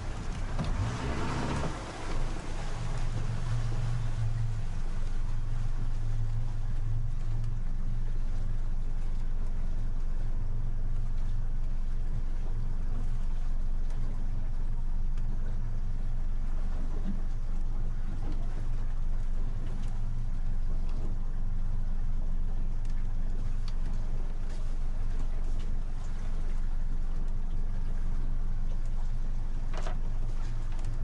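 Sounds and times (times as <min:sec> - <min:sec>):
motorboat engine idling: 0:00.0 - 0:31.0.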